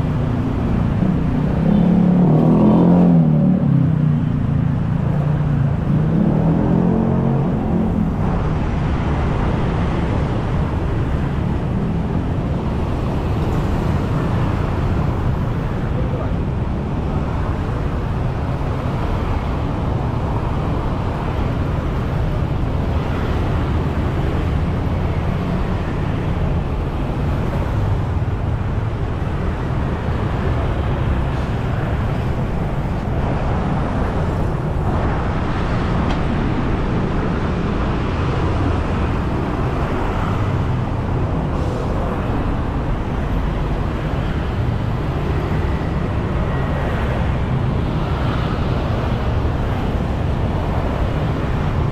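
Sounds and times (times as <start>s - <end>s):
road traffic hum: 0.0s - 51.9s.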